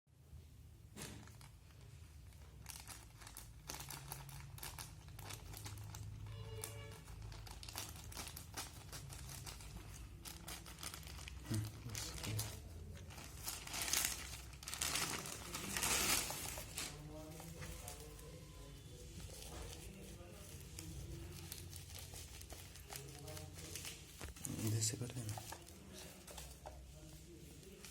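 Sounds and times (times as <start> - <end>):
plastic packaging crinkling and tearing: 1.0 - 27.9.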